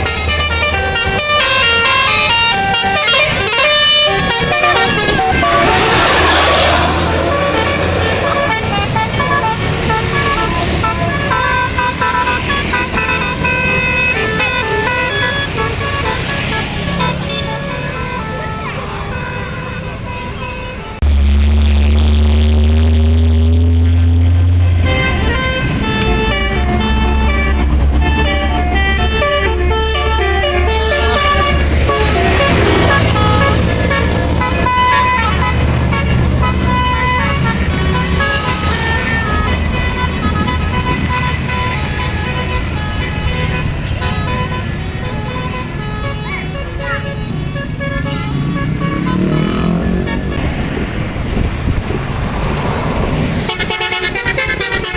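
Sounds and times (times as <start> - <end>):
musical bus horn playing a tune: 0.0 - 50.6, 53.3 - 54.9
bus engine running: 0.0 - 54.9.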